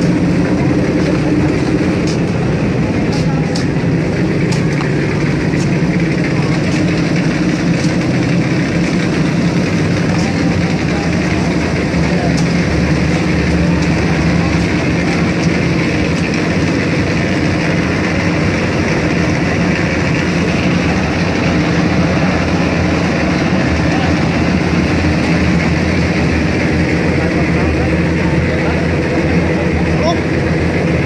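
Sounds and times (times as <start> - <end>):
concrete mixer engine running: 0.0 - 31.0.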